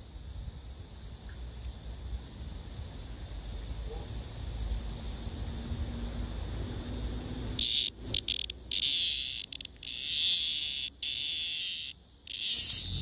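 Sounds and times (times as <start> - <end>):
cicada buzzing: 0.0 - 13.0.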